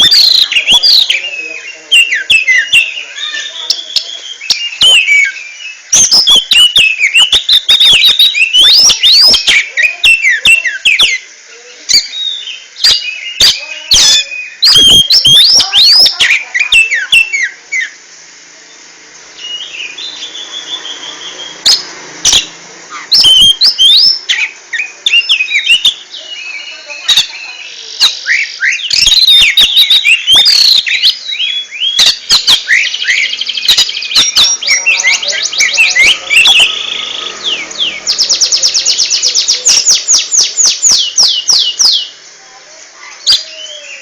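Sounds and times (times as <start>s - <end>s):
bird singing: 0.0s - 18.0s, 18.6s - 44.0s.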